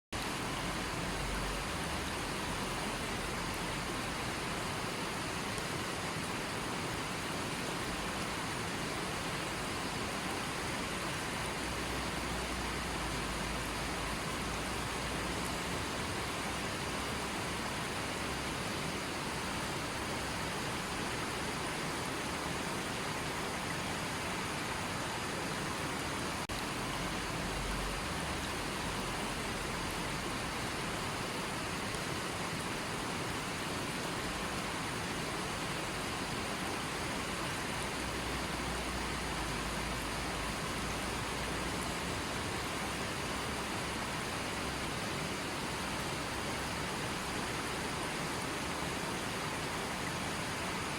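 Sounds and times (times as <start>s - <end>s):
creek water running and splashing: 0.1s - 50.9s.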